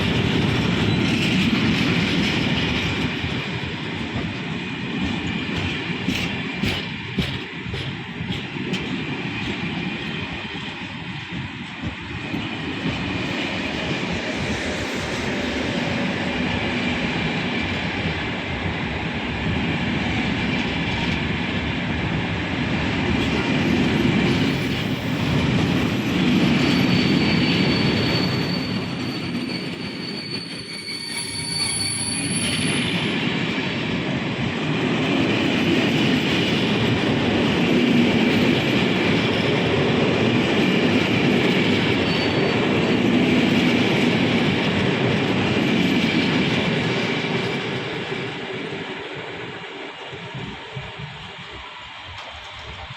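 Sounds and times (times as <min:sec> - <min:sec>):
high squealing of train wheels: 0:00.0 - 0:21.8, 0:22.8 - 0:52.9
train wheels rumbling: 0:00.0 - 0:52.9.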